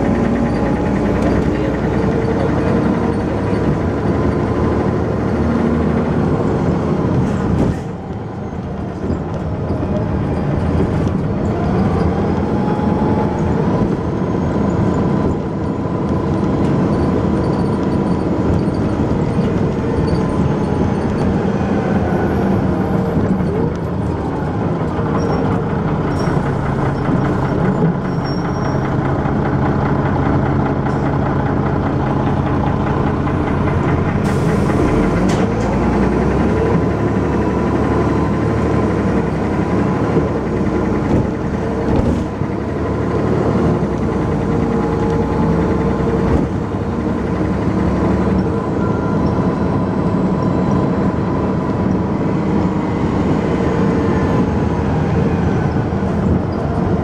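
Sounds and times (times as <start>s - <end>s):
bus engine running: 0.0s - 57.0s.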